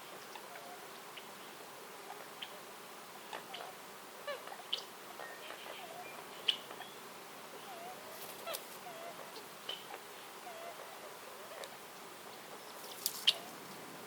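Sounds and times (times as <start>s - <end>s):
forest birds chirping: 0.0s - 14.0s
woodland ambience hiss: 0.0s - 14.0s.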